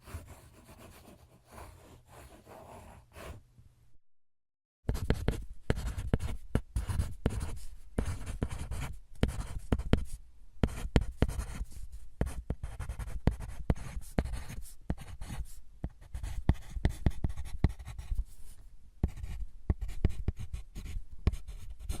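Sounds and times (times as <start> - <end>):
handwriting on paper: 0.0 - 3.4, 4.9 - 18.3, 19.0 - 22.0.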